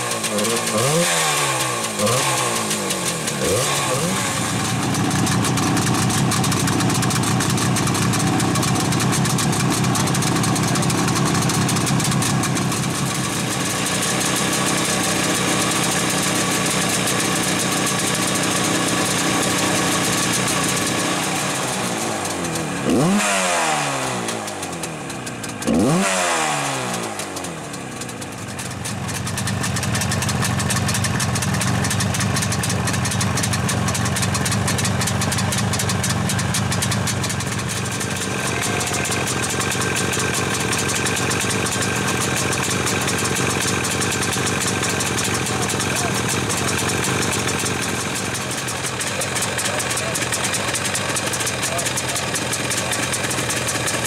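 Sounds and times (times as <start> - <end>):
motorcycle engine idling: 0.0 - 54.0
motorcycle throttle blips: 0.0 - 54.0.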